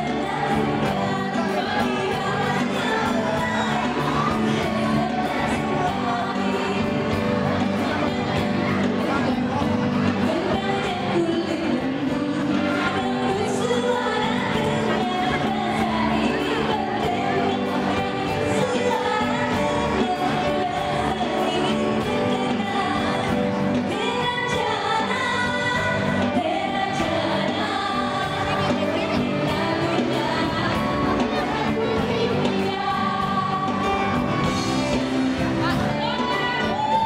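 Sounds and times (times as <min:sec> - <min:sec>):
many voices singing together: 0:00.0 - 0:35.2.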